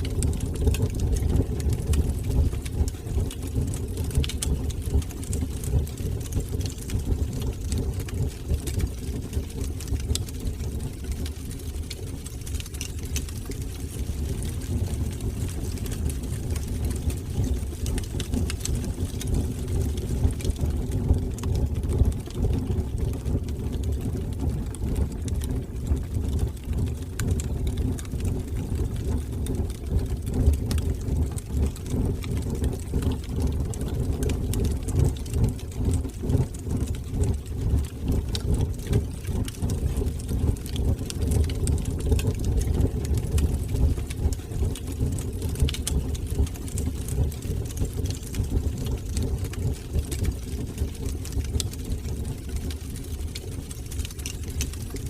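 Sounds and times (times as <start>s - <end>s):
fire crackles and pops: 0.0s - 55.0s
fire flames rumbling: 0.0s - 55.0s.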